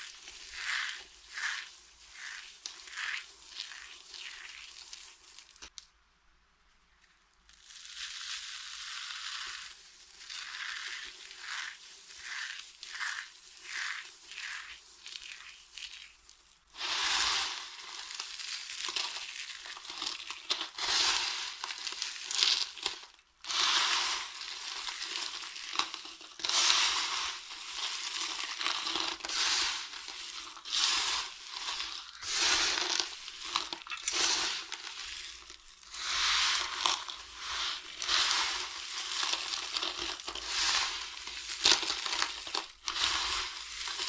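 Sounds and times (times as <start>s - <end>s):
dry soap crunching: 0.0s - 5.8s, 7.0s - 44.0s.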